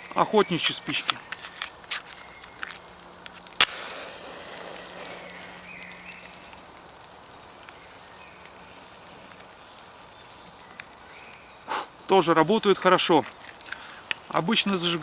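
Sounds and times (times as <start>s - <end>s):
match burning with a hiss: 0.0s - 12.0s, 12.9s - 15.0s
match striking: 0.1s - 11.9s, 13.2s - 15.0s.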